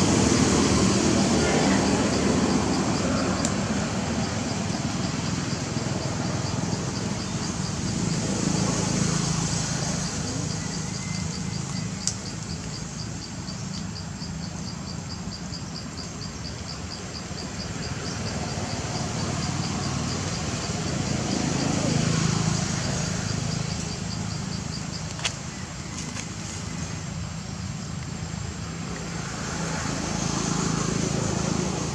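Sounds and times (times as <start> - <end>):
insect chirping: 0.0 - 31.9.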